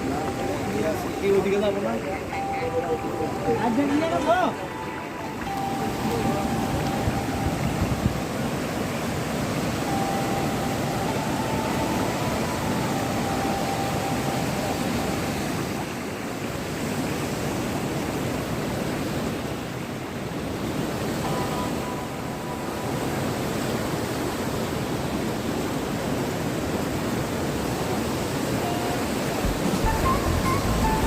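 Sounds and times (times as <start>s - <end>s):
waterfall rushing over rocks: 0.0s - 31.0s.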